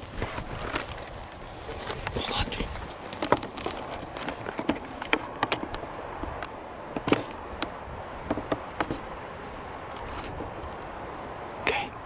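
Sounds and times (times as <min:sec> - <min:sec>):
footsteps through dry brush: 0:00.0 - 0:11.2
twigs cracking and snapping: 0:00.0 - 0:11.6.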